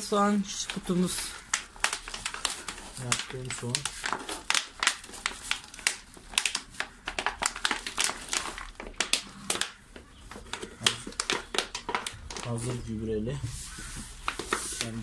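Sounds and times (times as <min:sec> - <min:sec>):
plastic bottle crinkling: 0:00.0 - 0:13.1, 0:13.7 - 0:15.0.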